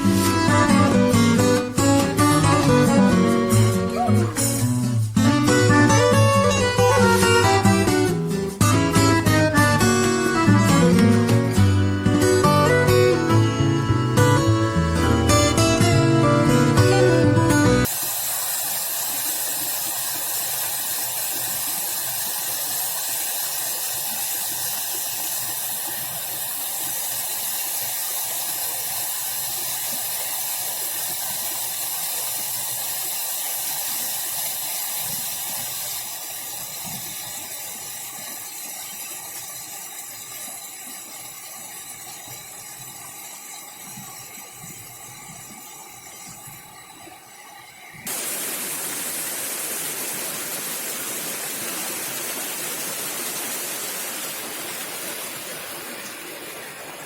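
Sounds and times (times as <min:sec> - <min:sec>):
flowing water hiss: 0:00.0 - 0:57.0.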